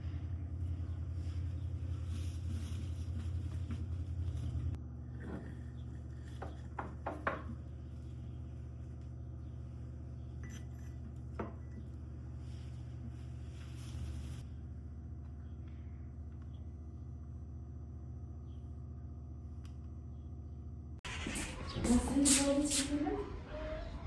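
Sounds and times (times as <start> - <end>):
low hum: 0.0 - 6.9, 7.5 - 24.0.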